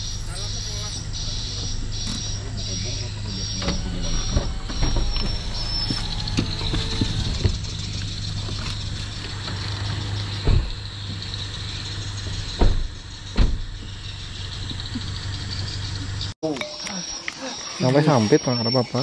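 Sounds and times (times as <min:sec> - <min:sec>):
car engine idling: 0:00.0 - 0:16.4.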